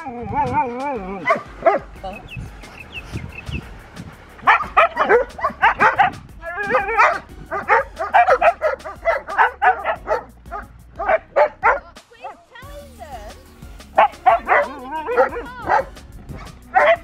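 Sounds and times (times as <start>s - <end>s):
dogs barking and yipping: 0.0s - 12.5s, 13.8s - 17.0s.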